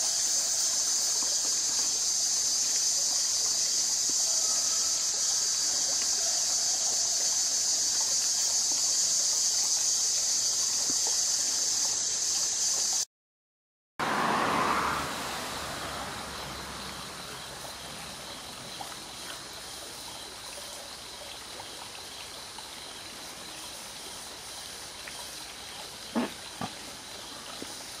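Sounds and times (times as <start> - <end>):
high-pitched insect chorus: 0.0 - 13.1, 14.0 - 28.0
steady rushing water: 0.0 - 13.1, 14.0 - 28.0.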